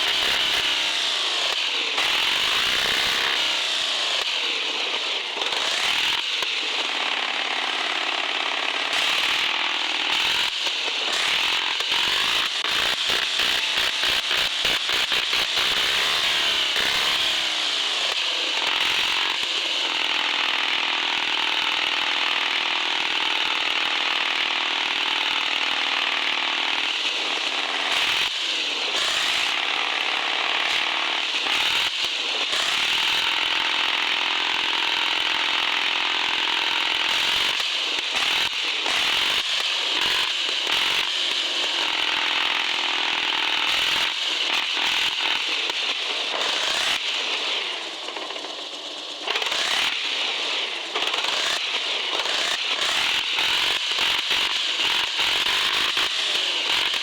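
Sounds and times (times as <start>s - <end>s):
toy truck electric motor whining: 0.0s - 57.0s.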